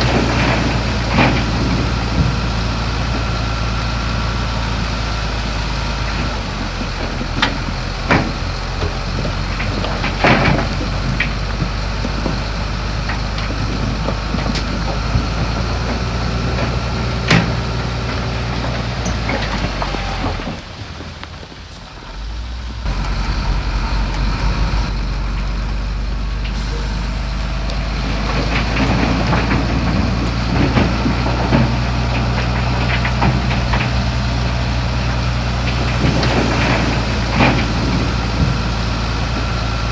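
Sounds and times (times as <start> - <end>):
diesel machinery droning: 0.0 - 39.9.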